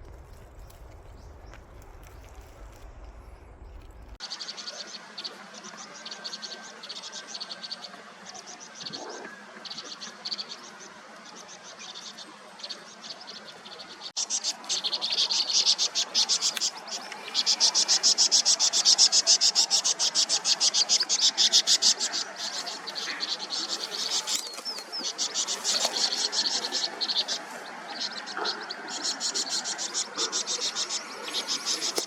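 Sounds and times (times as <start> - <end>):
birds harsh chattering alarm: 0.6 - 32.0.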